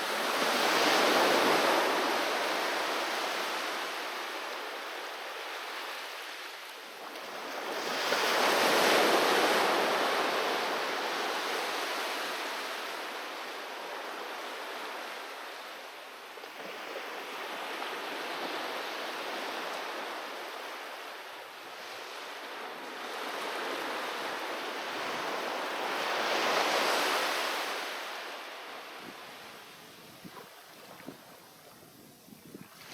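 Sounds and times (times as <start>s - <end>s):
waves washing onto a beach: 0.0s - 31.6s.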